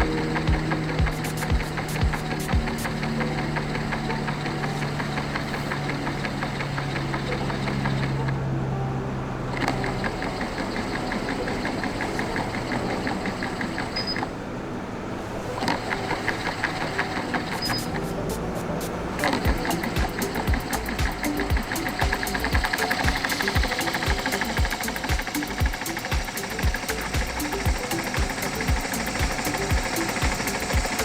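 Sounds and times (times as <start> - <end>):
fast ticking rattle: 0.0 - 8.4, 9.5 - 14.3, 15.6 - 31.0
magnetic stirrer motor hum: 0.0 - 8.5, 9.5 - 14.4, 15.4 - 31.0.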